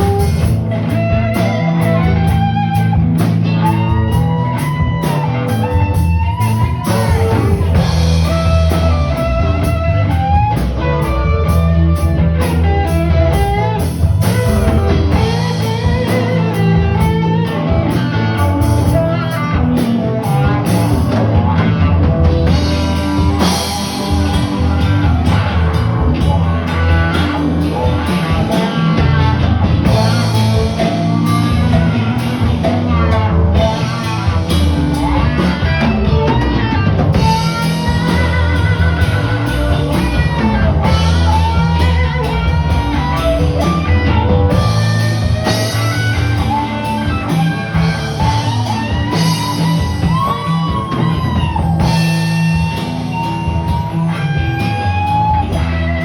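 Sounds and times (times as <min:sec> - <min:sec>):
bass guitar: 0:00.0 - 0:56.0
drum kit: 0:00.0 - 0:56.0
electric guitar lead with bent notes: 0:00.0 - 0:56.0.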